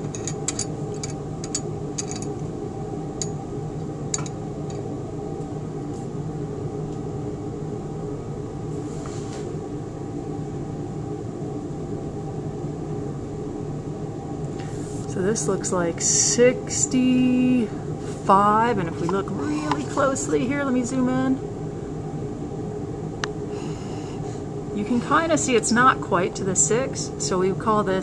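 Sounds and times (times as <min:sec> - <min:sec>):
mechanical room hum: 0:00.0 - 0:28.0.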